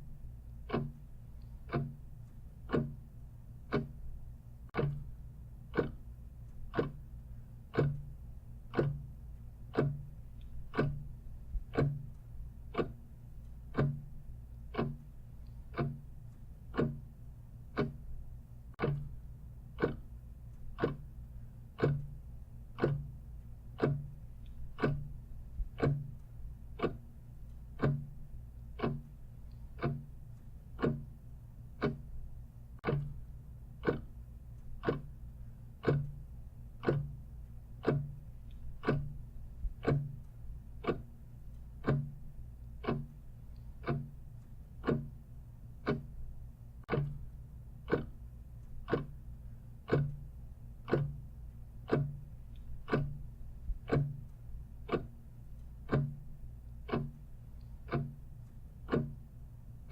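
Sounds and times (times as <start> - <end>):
clock ticking: 0.0 - 59.9
low steady hum: 0.0 - 59.9.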